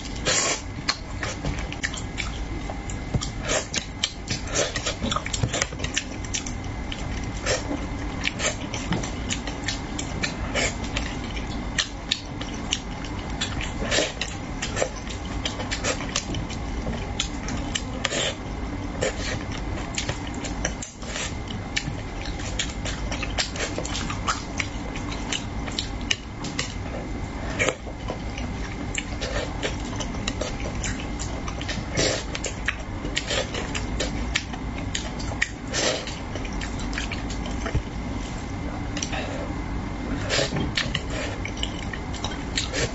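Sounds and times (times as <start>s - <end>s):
chewing and lip-smacking: 0.0s - 42.9s
steady low hum: 0.0s - 42.9s.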